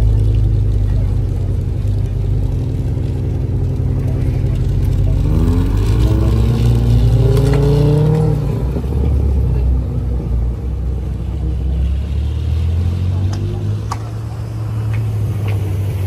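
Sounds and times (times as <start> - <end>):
car engine accelerating: 0.0 - 16.0
deep steady rumble: 0.0 - 16.0.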